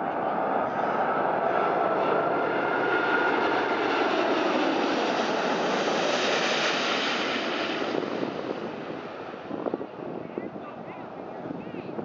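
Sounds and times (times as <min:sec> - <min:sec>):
jet engine noise overhead: 0:00.0 - 0:12.0.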